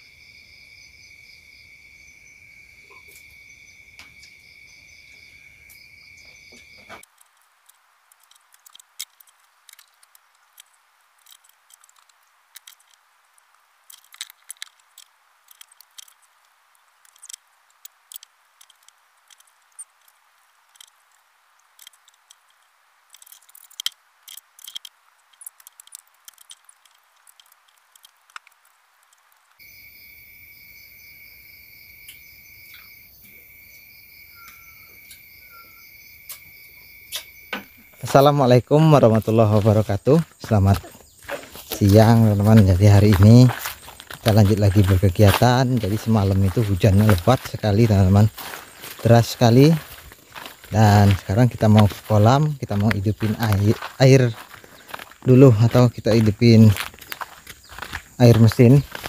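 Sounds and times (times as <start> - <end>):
night insects chorus: 0.0 - 59.0.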